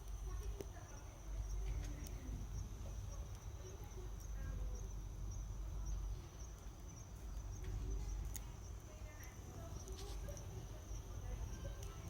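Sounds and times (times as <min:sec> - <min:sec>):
insect trill: 0:00.0 - 0:12.0
low fire rumble: 0:00.0 - 0:12.0.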